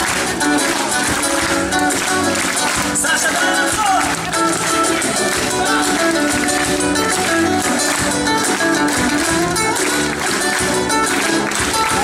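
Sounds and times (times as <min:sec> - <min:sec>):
live band with guitars and drums: 0:00.0 - 0:12.0.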